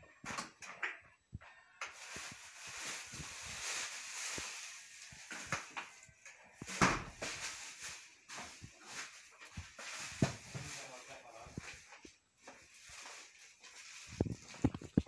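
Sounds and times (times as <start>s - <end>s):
fabric rustling and scuffling: 1.9s - 15.0s.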